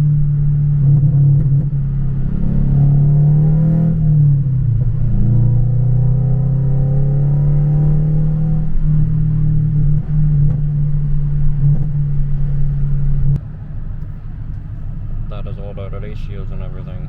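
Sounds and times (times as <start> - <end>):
car exhaust drone: 0.0 - 17.0.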